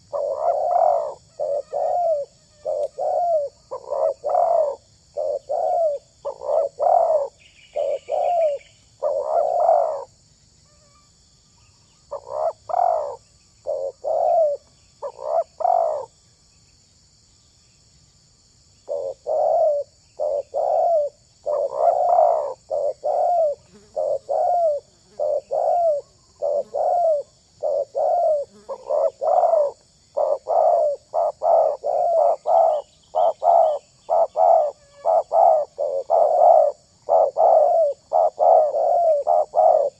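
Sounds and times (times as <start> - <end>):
dove cooing: 0.0 - 10.8, 12.1 - 16.1, 18.9 - 39.9.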